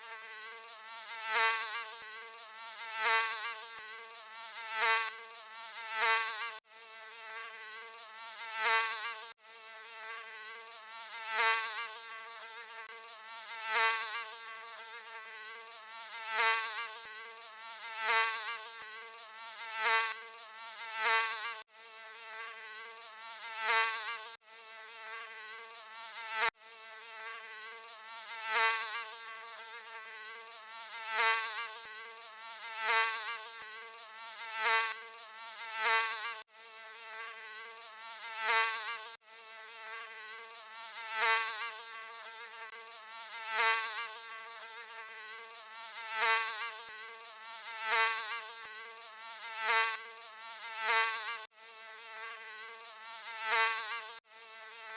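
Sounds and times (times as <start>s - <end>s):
mosquito buzzing: 0.0s - 54.9s.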